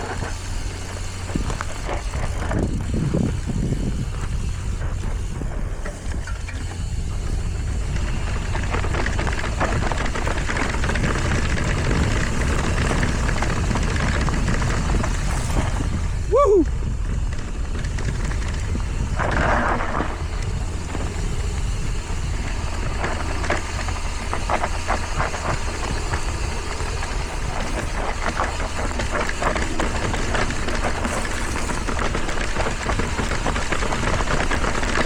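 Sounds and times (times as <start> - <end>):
bike clattering over rough ground: 0.0 - 35.0
tyres on dirt: 0.0 - 35.0
wind on microphone: 0.0 - 35.0.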